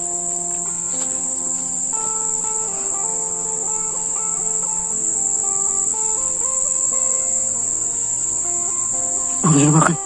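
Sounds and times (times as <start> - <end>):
background music melody: 0.0 - 10.0
high-pitched insect drone: 0.0 - 10.0.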